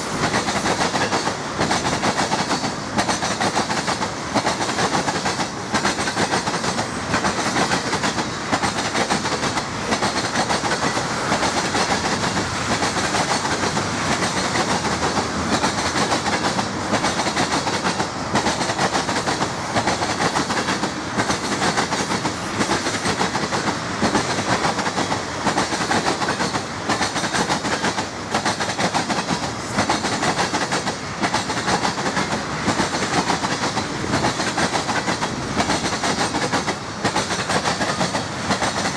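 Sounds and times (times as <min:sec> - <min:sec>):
train wheels rumbling on rail: 0:00.0 - 0:38.9
wheels clacking over rail joints: 0:00.0 - 0:38.9.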